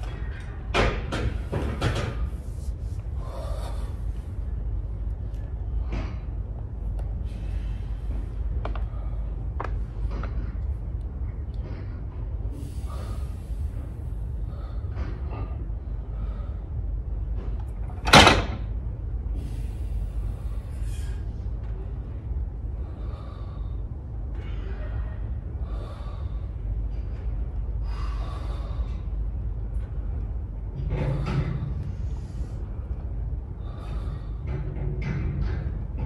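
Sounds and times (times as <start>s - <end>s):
gym hum: 0.0s - 36.0s.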